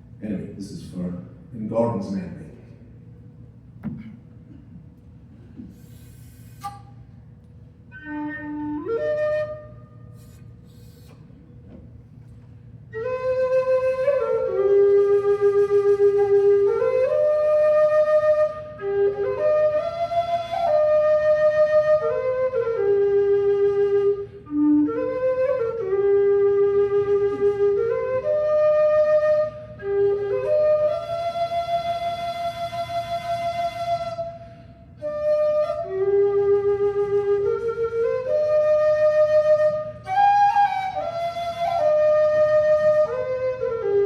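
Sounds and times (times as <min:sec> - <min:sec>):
low whistle playing slow air: 0:05.8 - 0:07.0, 0:07.9 - 0:11.4, 0:12.9 - 0:44.0.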